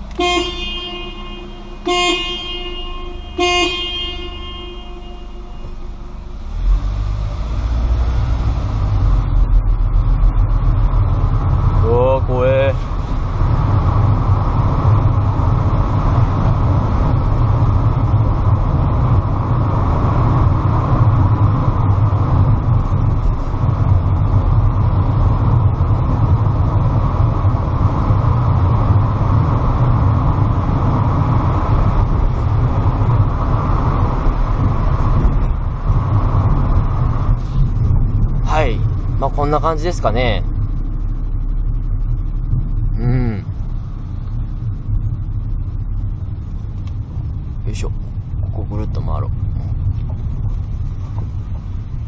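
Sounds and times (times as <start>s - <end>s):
car engine and tyre noise: 0.0s - 52.0s.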